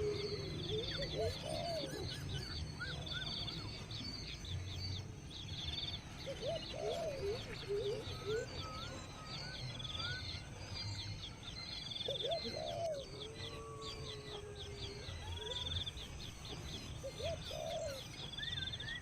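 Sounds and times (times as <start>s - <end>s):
birds chirping and trilling: 0.0s - 19.0s
lower swooping bird calls: 0.0s - 19.0s.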